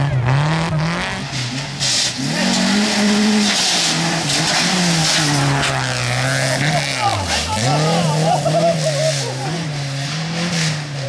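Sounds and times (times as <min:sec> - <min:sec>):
rally car engine revving: 0:00.0 - 0:11.0
gravel spraying under tyres: 0:01.0 - 0:11.0.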